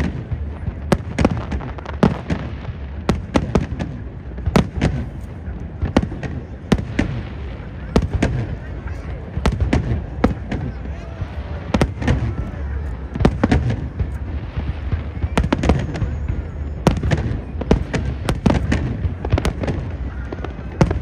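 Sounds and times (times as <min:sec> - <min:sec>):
crowd voices: 0:00.0 - 0:21.0
fireworks bangs and crackles: 0:00.0 - 0:21.0.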